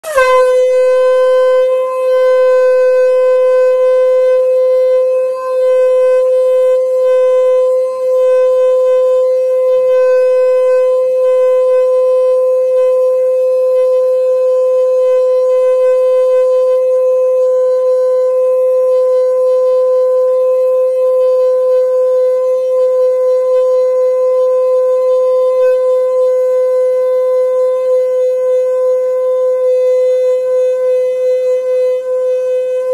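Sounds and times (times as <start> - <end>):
conch shell blown: 0.0 - 32.9.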